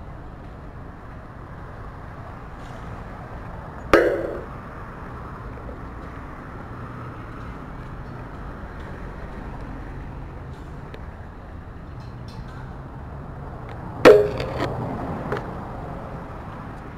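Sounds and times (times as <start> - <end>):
engines rumbling: 0.0 - 16.9.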